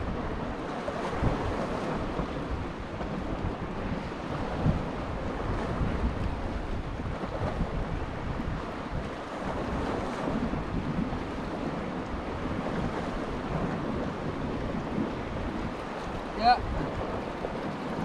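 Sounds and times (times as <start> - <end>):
sea waves washing against rocks: 0.0 - 18.0
wind buffeting microphone: 0.0 - 18.0.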